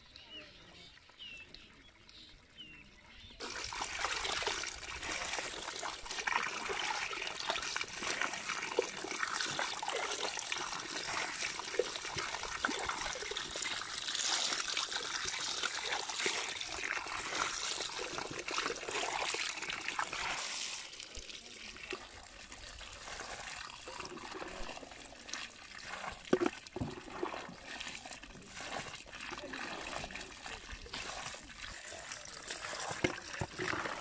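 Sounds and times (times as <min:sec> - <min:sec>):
water streaming into basket: 0:03.4 - 0:34.0.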